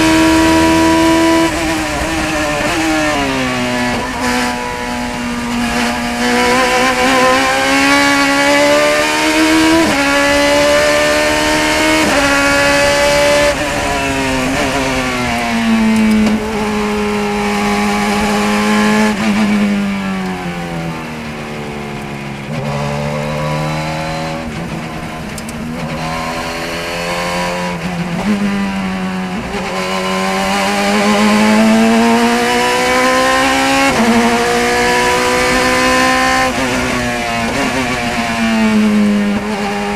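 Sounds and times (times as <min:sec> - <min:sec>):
racing car engine at full throttle: 0:00.0 - 0:39.9.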